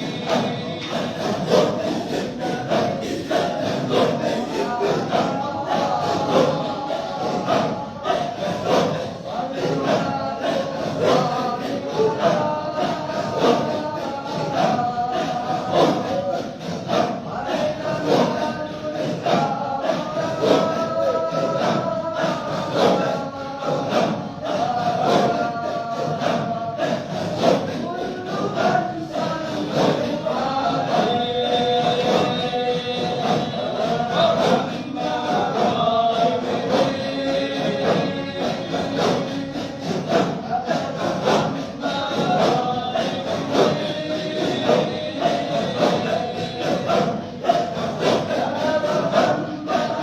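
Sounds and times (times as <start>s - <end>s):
group chanting in unison: 0.0s - 50.0s
steady percussive beat: 0.0s - 50.0s.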